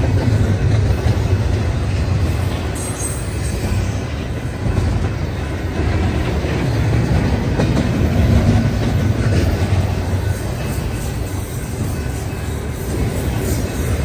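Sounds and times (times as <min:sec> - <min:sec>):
freight train rumbling past: 0:00.0 - 0:14.0
wheels clacking over rail joints: 0:00.0 - 0:14.0.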